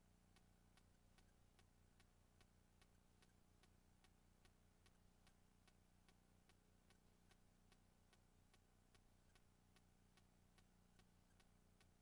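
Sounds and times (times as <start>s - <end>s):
faint low hum: 0.0s - 12.0s
faint regular ticking: 0.0s - 12.0s.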